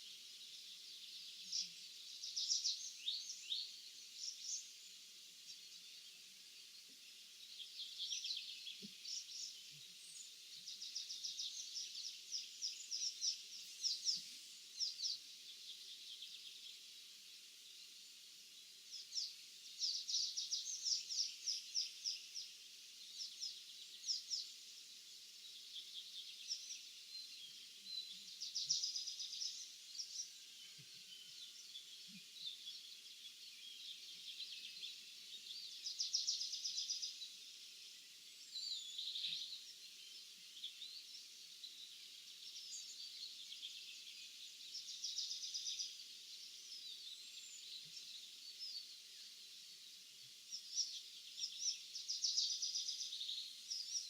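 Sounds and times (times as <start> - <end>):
faint steady hiss: 0.0 - 54.0
songbirds chirping: 0.0 - 54.0.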